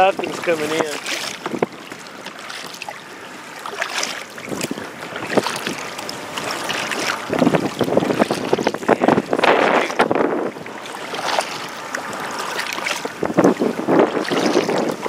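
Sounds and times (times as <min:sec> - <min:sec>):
wind buffeting microphone: 0:00.0 - 0:01.8, 0:04.4 - 0:15.0
water splashing against kayak: 0:00.0 - 0:15.0.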